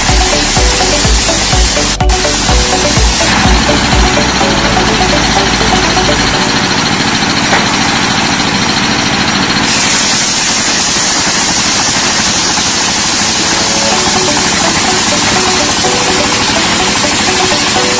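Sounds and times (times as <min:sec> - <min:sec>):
wood-cutting machine engine running: 0:00.0 - 0:17.9.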